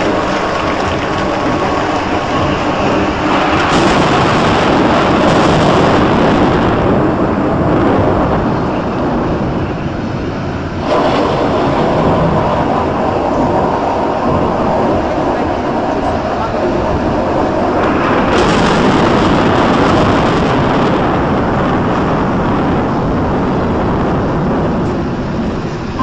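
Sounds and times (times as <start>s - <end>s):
loud rushing rain: 0.0s - 26.0s
rolling thunder rumble: 0.0s - 26.0s.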